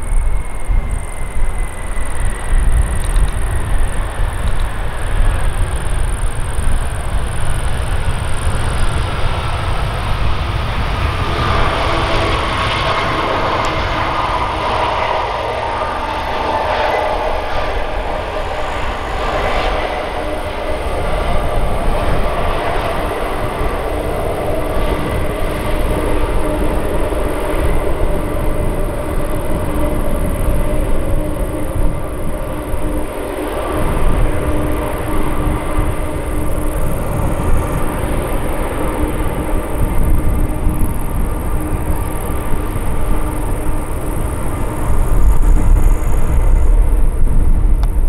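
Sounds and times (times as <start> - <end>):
jet engine rumble: 0.0 - 48.0
jet engine whining tones: 0.0 - 48.0.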